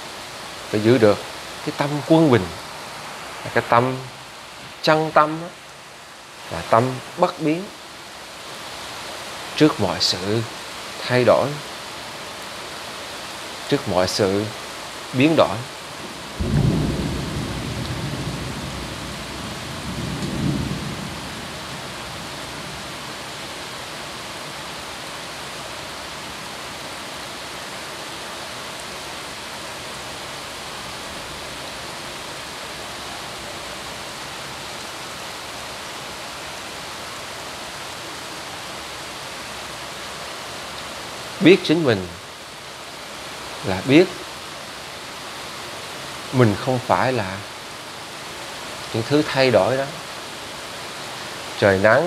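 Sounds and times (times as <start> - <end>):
steady even hiss: 0.0 - 52.0.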